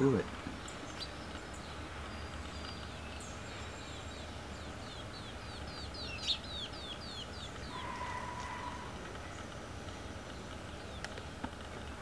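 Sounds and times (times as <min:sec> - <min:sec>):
faint outdoor background noise: 0:00.0 - 0:12.0
small bird chirping: 0:00.0 - 0:12.0.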